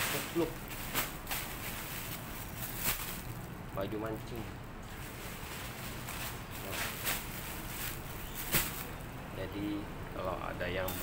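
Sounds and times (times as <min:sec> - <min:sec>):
rustling and shuffling: 0:00.0 - 0:09.1
low background hum: 0:00.0 - 0:11.0.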